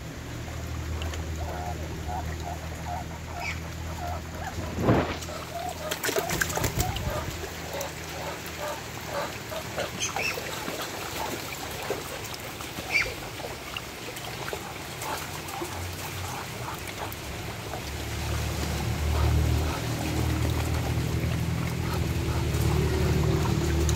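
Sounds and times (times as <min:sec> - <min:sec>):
ducks splashing: 0:00.0 - 0:23.9
water trickling: 0:00.0 - 0:23.9
ducks calling softly: 0:01.0 - 0:11.5, 0:14.4 - 0:23.9.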